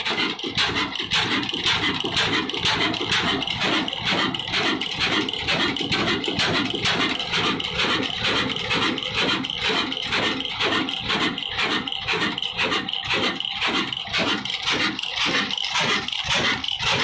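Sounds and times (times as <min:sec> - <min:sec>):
stationary diesel engine running: 0:00.0 - 0:17.0.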